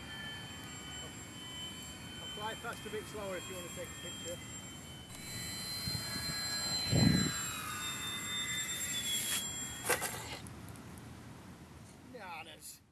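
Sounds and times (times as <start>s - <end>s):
model airplane motor whining: 0.1s - 10.4s.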